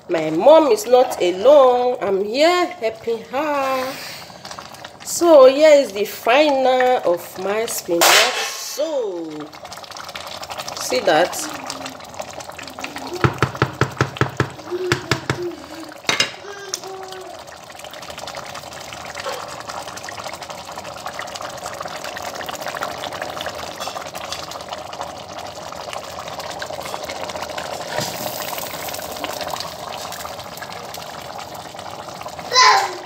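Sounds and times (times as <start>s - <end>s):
soup boiling and bubbling: 0.0s - 33.0s.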